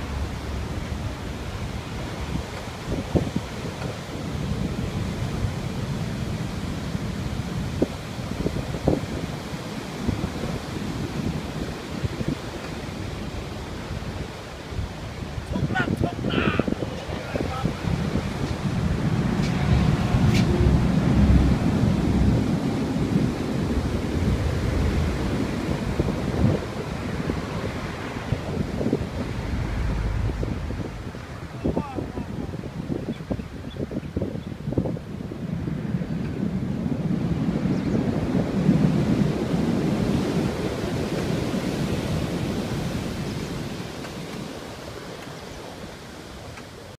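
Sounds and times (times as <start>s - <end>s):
surf breaking on beach: 0.0s - 47.0s
wind buffeting microphone: 0.0s - 47.0s.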